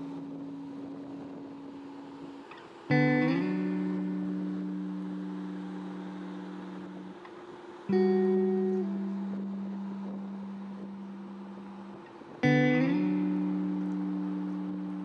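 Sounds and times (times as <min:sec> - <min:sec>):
ringing music chords: 0:00.0 - 0:15.0.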